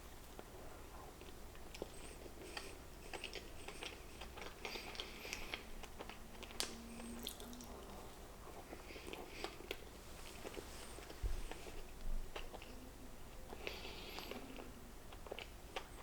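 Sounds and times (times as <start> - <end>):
person chewing a snack cake: 0.0 - 16.0.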